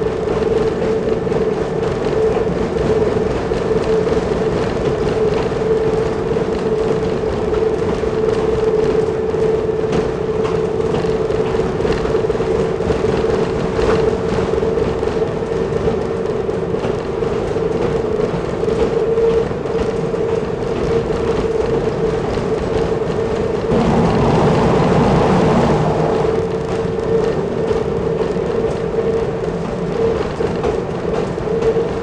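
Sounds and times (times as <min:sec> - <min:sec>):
railbus running on rails: 0:00.0 - 0:32.0.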